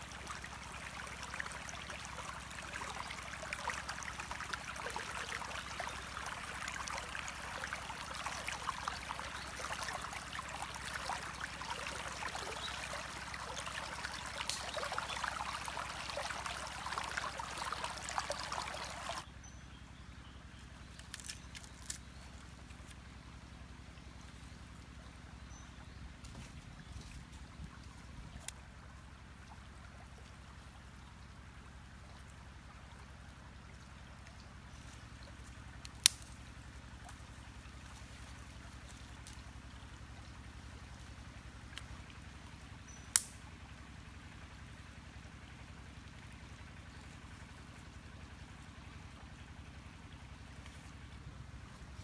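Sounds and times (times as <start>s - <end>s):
stream trickling: 0.0s - 52.0s.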